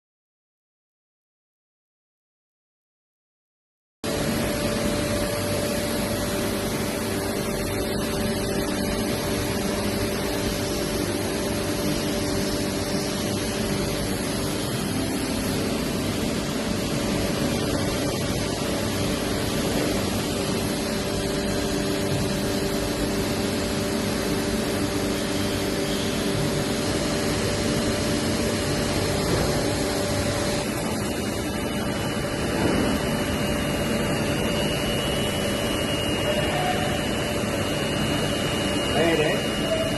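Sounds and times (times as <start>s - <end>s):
high-pitched machine whine: 4.0s - 39.9s
machining centre humming: 4.1s - 39.9s.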